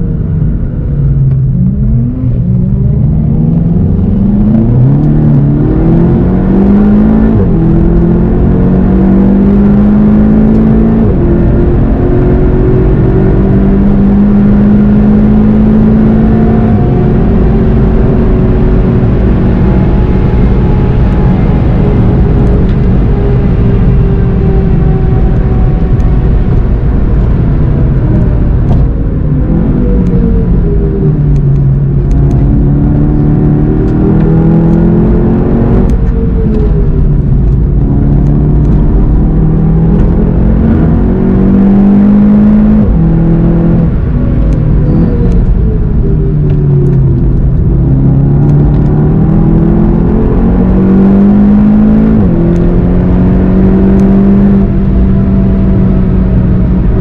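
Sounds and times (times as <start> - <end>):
car engine accelerating and slowing: 0.0 - 57.0.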